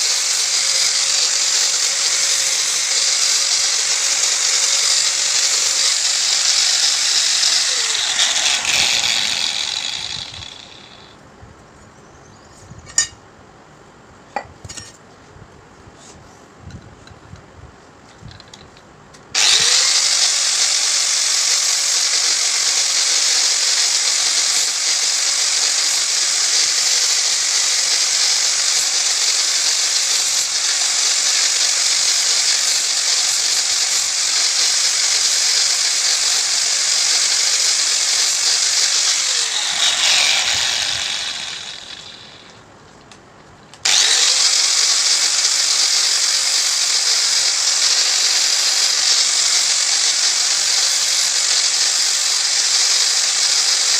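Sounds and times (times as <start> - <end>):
electric power tool running: 0.0 - 11.1, 19.4 - 42.6, 43.8 - 53.9.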